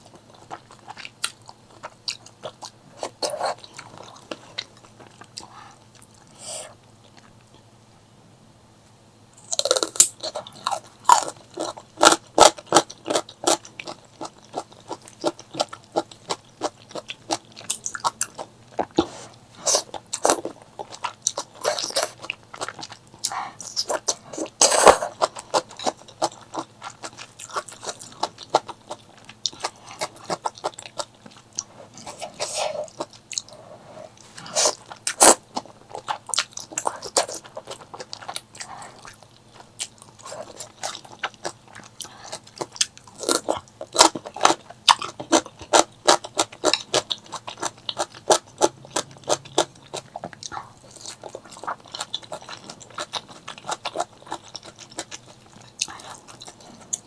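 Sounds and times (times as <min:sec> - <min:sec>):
chewing and crunching food: 0:00.0 - 0:07.7, 0:09.4 - 0:57.0.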